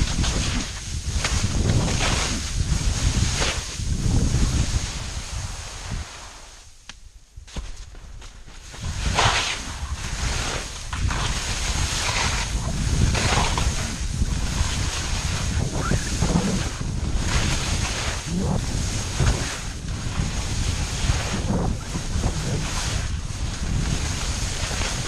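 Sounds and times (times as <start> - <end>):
skis scraping over snow: 0.0 - 6.7, 7.5 - 25.0
wind rushing over microphone: 0.0 - 25.0.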